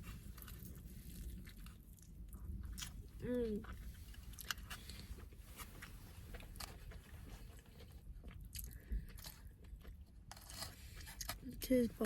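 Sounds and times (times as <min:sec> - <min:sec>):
person chewing: 0:00.0 - 0:11.6.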